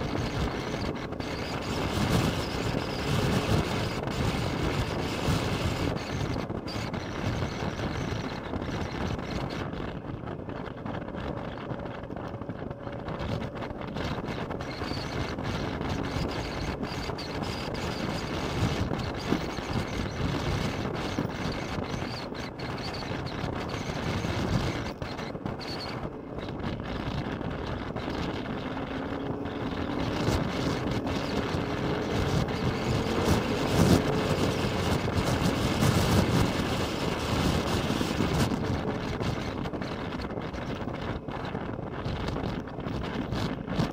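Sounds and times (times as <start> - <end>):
motorcycle engine accelerating: 0.0 - 43.9
wind buffeting microphone: 0.0 - 43.9.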